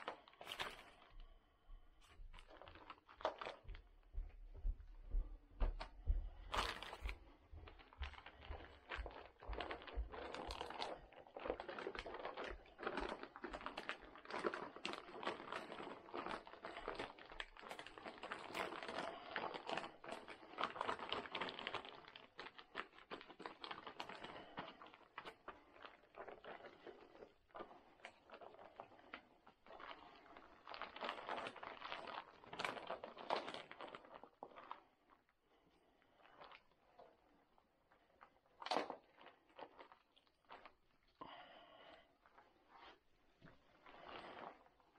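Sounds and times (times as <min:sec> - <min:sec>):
plastic sheeting crinkling: 0:00.0 - 0:01.3, 0:02.0 - 0:04.7, 0:05.6 - 0:35.3, 0:36.2 - 0:44.9
small irregular crackles: 0:00.0 - 0:44.9.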